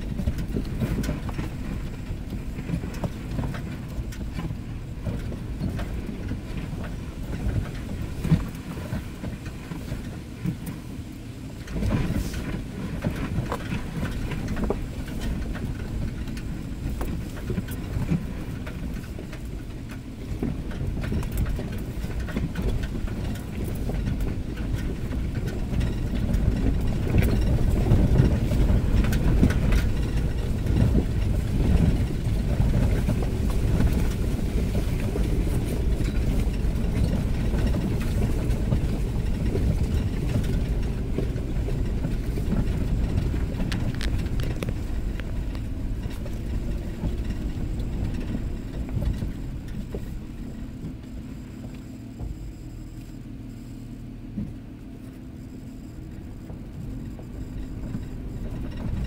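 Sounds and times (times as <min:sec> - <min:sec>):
tyres rolling over dirt and rock: 0:00.0 - 0:52.4, 0:55.9 - 0:59.0
engine drone: 0:00.0 - 0:59.0.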